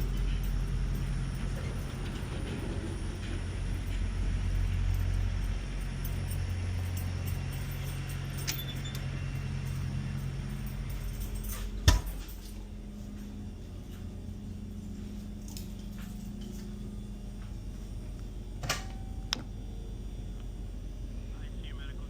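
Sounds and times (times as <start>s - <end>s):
truck engine hum from inside cab: 0.0s - 21.7s.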